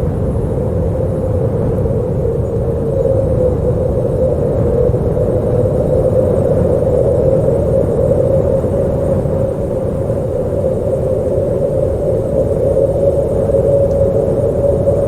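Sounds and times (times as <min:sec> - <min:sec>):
howling wind: 0:00.0 - 0:15.0.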